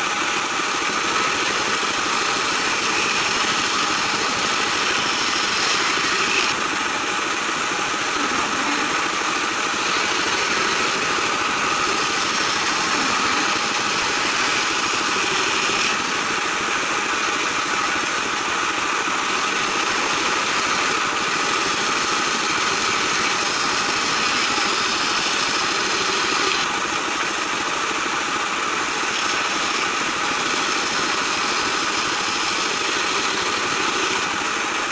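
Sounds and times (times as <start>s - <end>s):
band saw cutting wood: 0.0s - 34.9s.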